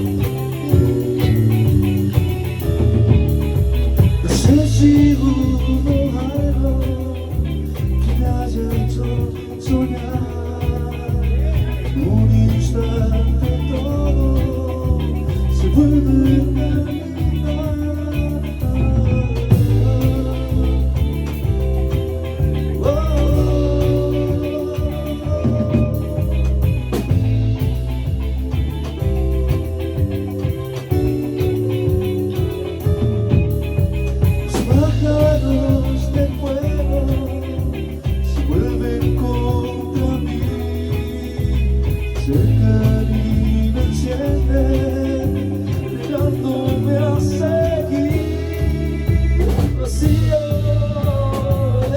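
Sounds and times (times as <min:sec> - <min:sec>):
gliding melodic lead: 0:00.0 - 0:51.7
band playing: 0:00.0 - 0:51.9
bass line: 0:00.0 - 0:51.9.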